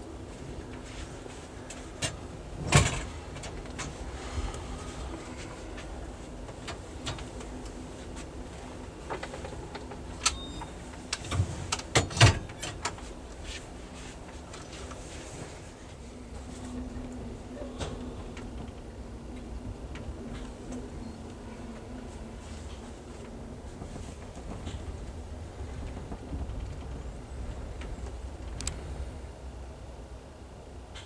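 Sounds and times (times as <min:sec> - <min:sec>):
train car rumble and hum: 0:00.0 - 0:31.0.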